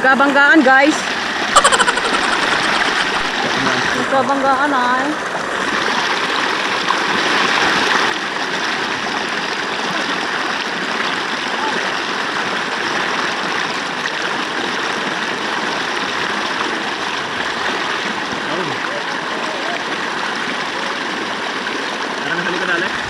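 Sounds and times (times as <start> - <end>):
river water rushing: 0.8 - 23.0.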